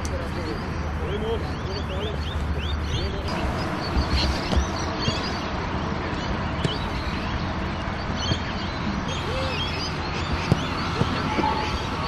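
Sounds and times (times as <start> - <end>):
small birds chirping: 0.0 - 12.0
steady background noise: 0.0 - 12.0.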